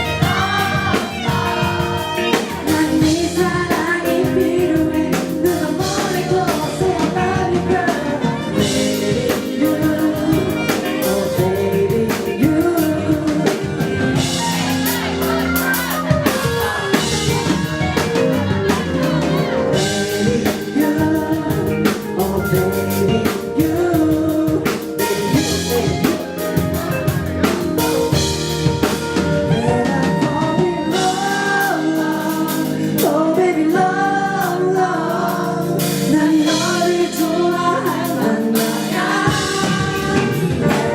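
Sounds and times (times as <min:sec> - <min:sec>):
drums: 0:00.0 - 0:40.9
guitar: 0:00.0 - 0:40.9
person singing: 0:00.0 - 0:40.9.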